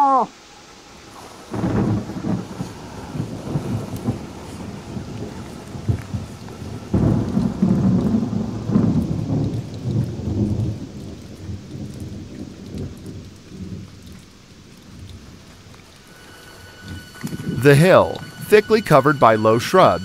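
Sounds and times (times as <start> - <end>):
rain: 0.0 - 20.0
thunder rumbling: 0.7 - 20.0.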